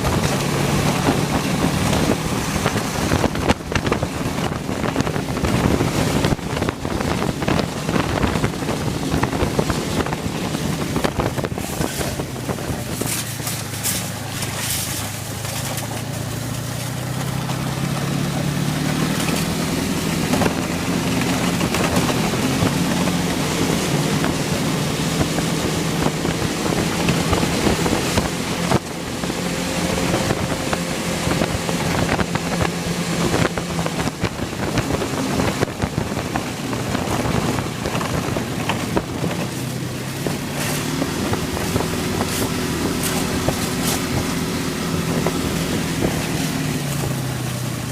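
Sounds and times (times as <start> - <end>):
boat motor running: 0.0 - 47.9
water noise: 0.0 - 47.9
wind on microphone: 0.0 - 47.9.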